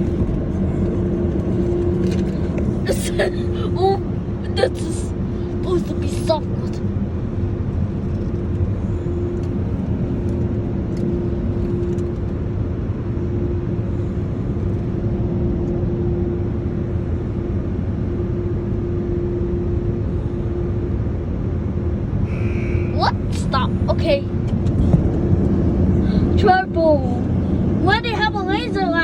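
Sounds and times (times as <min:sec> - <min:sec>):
constant hum: 0:00.0 - 0:29.0.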